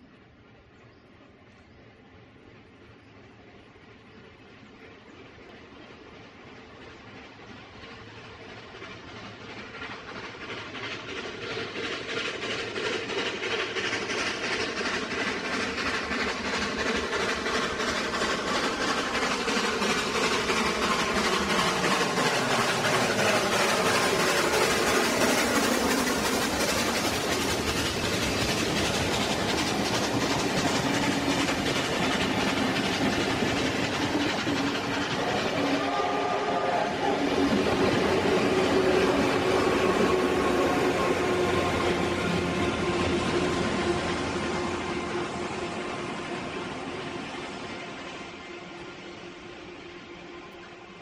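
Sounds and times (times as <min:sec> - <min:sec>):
train wheels clicking over rail joints: 0:04.1 - 0:48.8
steam locomotive exhaust: 0:05.0 - 0:51.0.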